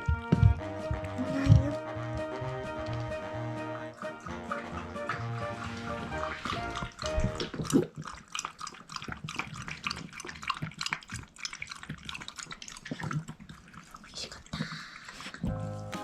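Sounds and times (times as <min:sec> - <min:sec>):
dog licking and chewing: 0:00.0 - 0:15.4.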